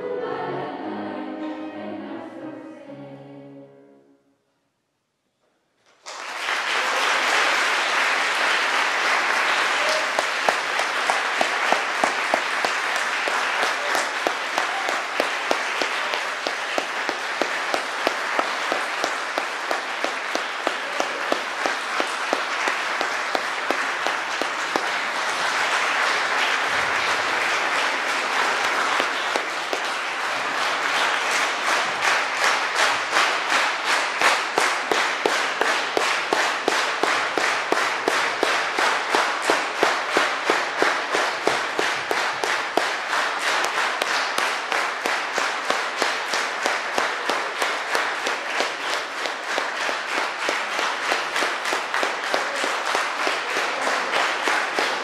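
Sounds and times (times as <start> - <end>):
audience applauding: 5.9 - 55.0
rhythmic clapping in unison: 5.9 - 55.0.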